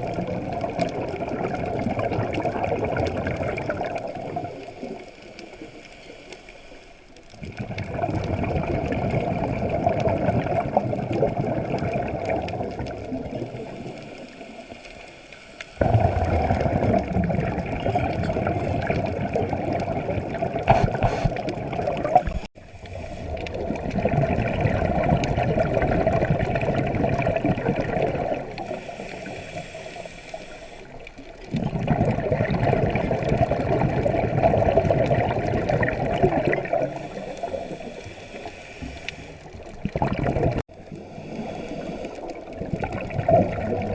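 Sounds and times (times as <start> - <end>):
diver's exhaust bubbles gurgling: 0.0 - 5.1, 7.4 - 14.6, 15.8 - 43.9.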